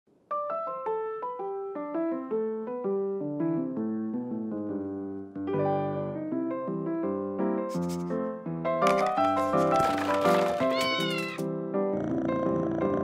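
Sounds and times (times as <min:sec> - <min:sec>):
piano music: 0:00.3 - 0:13.0.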